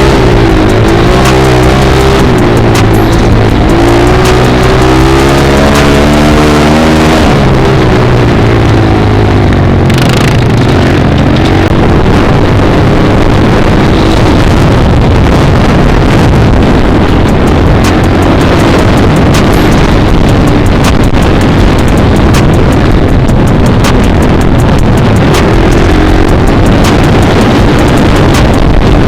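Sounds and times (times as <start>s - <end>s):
dirt bike engine revving: 0.0s - 29.0s
wind buffeting microphone: 0.0s - 29.0s.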